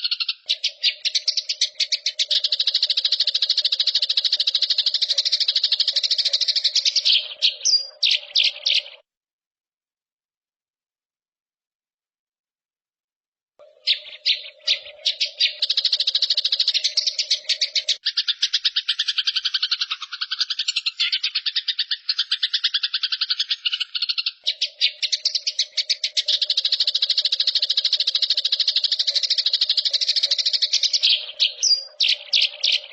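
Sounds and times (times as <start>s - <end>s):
bird trilling: 0.0s - 9.0s, 13.6s - 32.9s.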